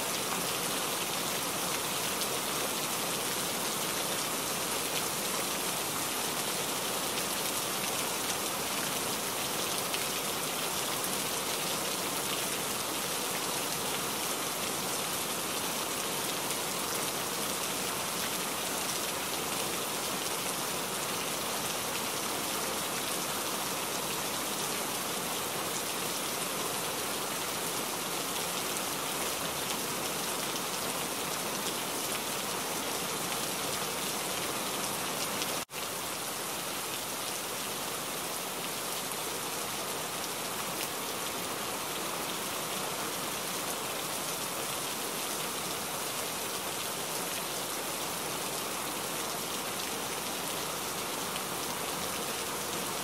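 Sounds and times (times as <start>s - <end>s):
rain falling steadily: 0.0s - 53.0s.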